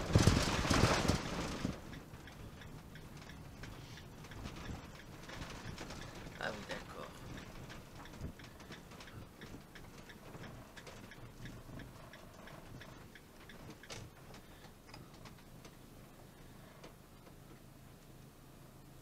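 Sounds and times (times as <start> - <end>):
cab clicking and rattling: 0.0 - 17.7
engine and road rumble: 0.0 - 19.0.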